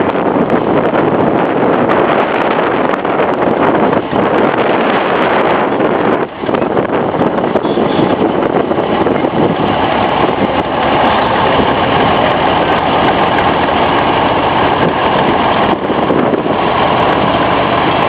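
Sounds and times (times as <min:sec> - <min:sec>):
locomotive engine running: 0:00.0 - 0:18.0.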